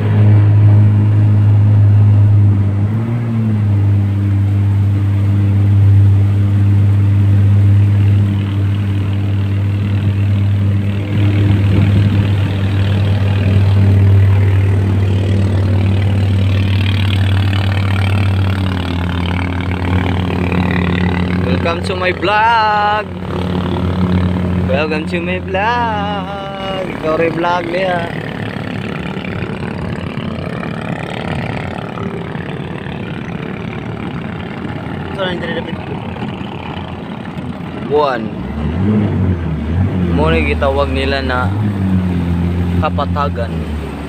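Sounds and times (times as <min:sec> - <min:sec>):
jet ski engine running: 0:00.0 - 0:44.0.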